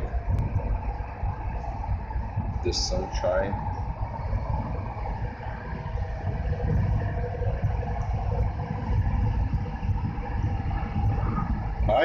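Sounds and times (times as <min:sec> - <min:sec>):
faint steady hum: 0:00.0 - 0:12.0
train rumbling inside carriage: 0:00.0 - 0:12.0.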